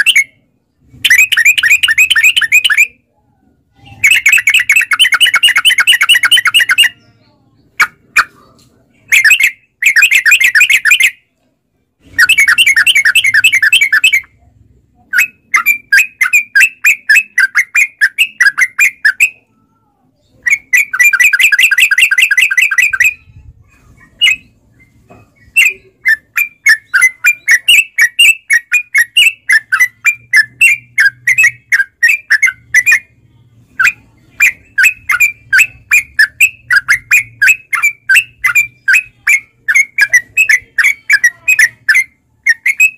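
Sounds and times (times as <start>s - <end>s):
bird chattering calls: 1.0s - 3.0s, 3.8s - 7.1s, 7.7s - 11.2s, 12.1s - 14.4s, 15.1s - 19.5s, 20.4s - 33.1s, 33.8s - 42.9s.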